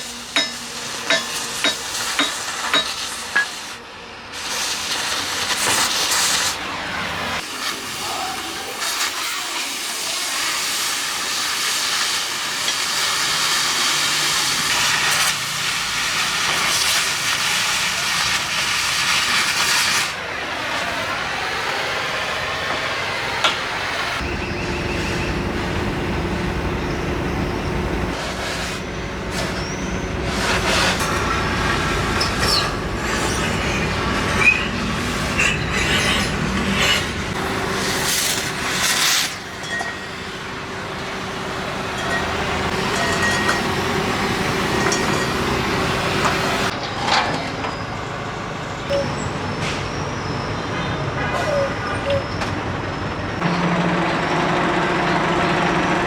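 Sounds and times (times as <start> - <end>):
cutting torch hissing: 0.0 - 46.7.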